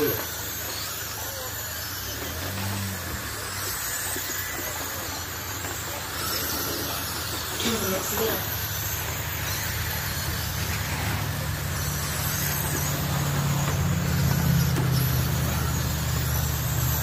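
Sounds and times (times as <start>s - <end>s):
rc trucks racing on dirt: 0.0s - 17.0s.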